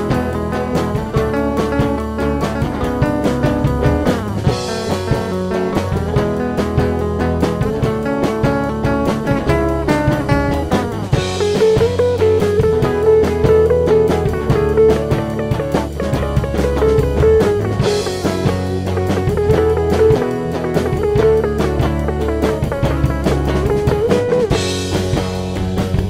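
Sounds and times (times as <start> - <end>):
guitar over drum kit: 0.0 - 26.0.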